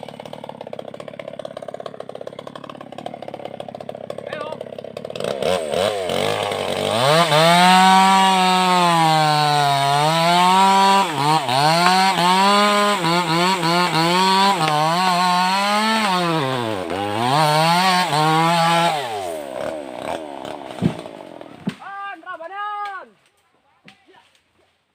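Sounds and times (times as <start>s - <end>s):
chainsaw cutting wood: 0.0s - 21.9s.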